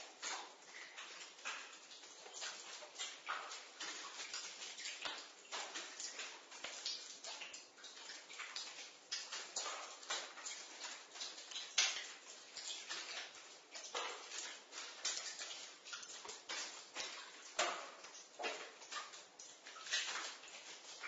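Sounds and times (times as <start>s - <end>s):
water dripping with echo: 0.0s - 21.0s.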